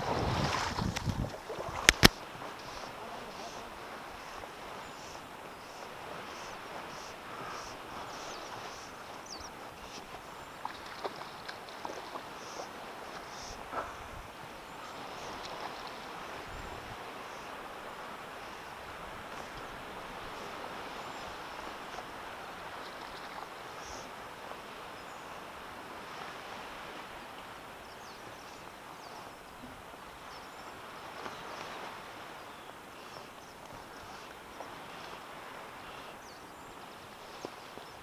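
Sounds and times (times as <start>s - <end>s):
light wind: 0.0s - 38.0s
rippling sea water: 0.0s - 38.0s.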